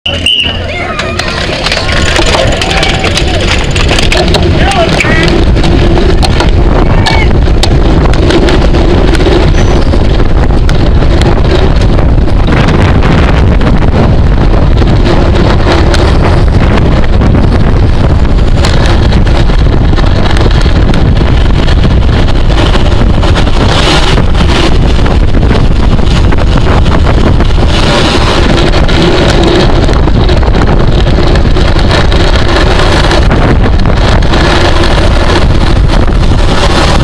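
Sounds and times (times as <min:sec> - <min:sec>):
wind buffeting microphone: 0:00.1 - 0:37.0.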